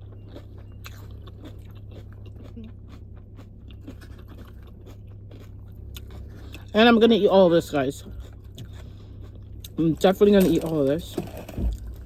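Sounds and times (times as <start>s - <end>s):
chips crunching while chewing: 0.0s - 7.0s, 7.6s - 12.0s.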